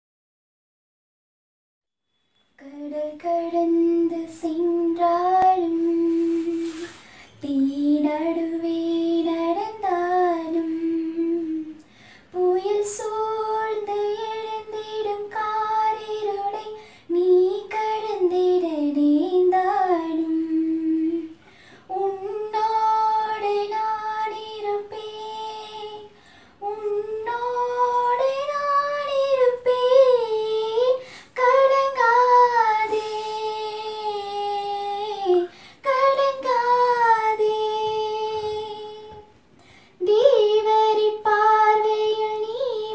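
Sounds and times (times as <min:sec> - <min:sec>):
woman singing unaccompanied: 0:02.6 - 0:39.4, 0:40.0 - 0:42.9.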